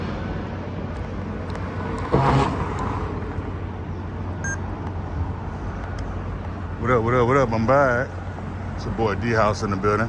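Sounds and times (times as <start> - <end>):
passing cars rumble: 0.0 - 10.0.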